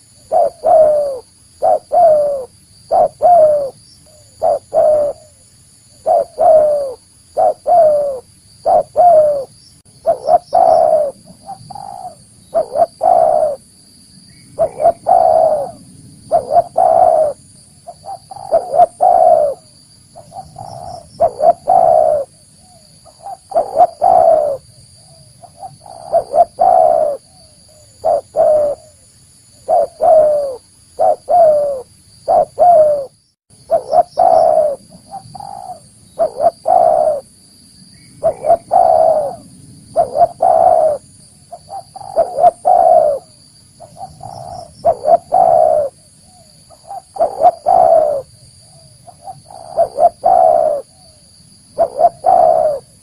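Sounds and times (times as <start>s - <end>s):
dove cooing: 0.0s - 13.7s, 14.6s - 29.0s, 29.6s - 37.3s, 38.2s - 53.0s.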